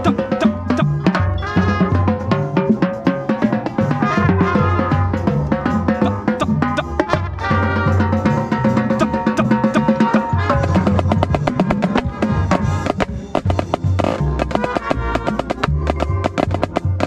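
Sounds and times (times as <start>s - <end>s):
bass and tenor drums: 0.0s - 17.0s.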